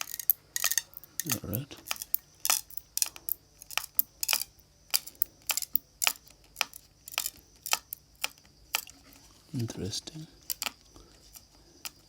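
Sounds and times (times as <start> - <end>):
small tools clicking and scraping: 0.0 - 12.0.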